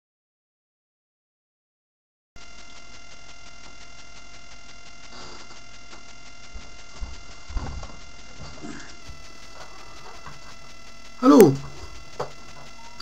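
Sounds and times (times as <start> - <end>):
electrical hum and whine: 2.4 - 13.0.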